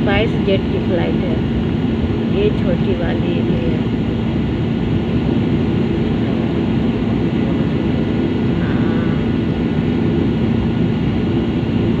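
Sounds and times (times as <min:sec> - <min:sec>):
airliner cabin engine noise: 0:00.0 - 0:12.0.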